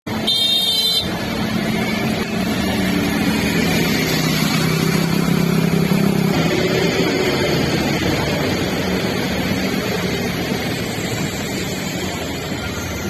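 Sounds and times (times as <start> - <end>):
traffic engines humming: 0.1 - 13.0.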